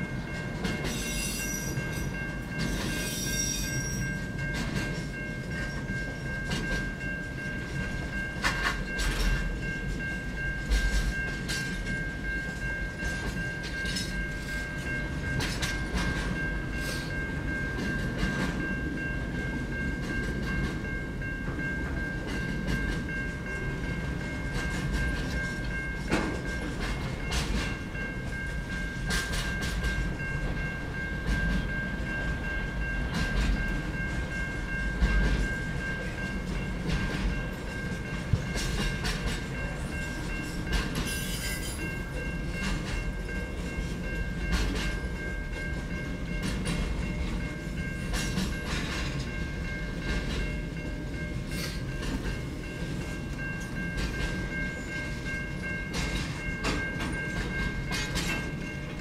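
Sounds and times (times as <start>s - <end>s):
freight train wheels rumbling on rails: 0.0s - 59.0s
train clicks and clunks: 0.0s - 59.0s.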